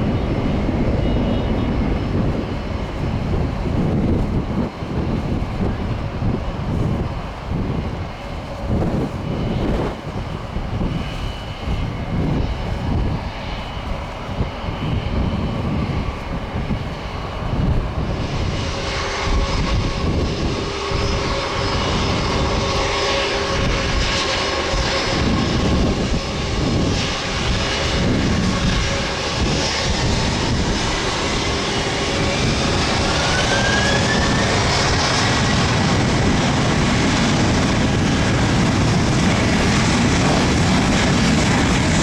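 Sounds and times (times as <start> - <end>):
jet engines rumbling and whining: 0.0 - 42.0.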